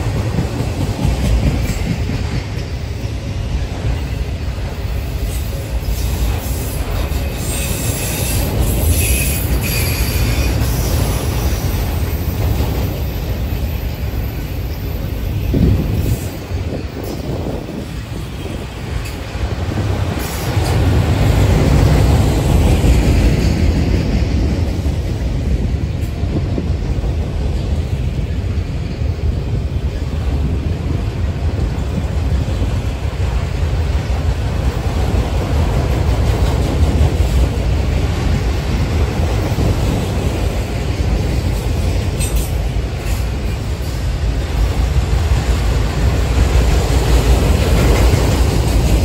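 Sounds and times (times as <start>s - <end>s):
freight train wheels rumbling on rails: 0.0s - 49.0s.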